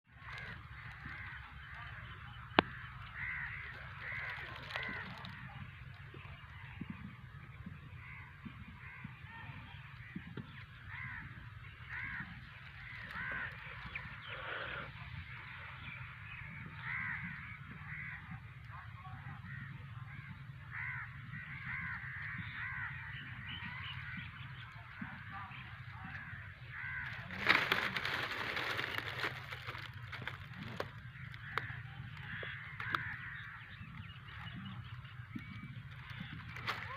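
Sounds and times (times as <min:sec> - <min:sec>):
birds calling harshly: 0:00.1 - 0:36.9.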